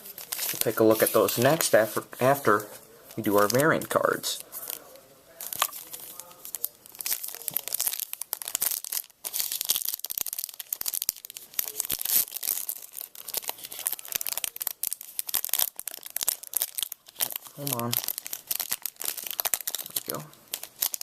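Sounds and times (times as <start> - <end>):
plastic wrapper crinkling and tearing: 0.0 - 21.0.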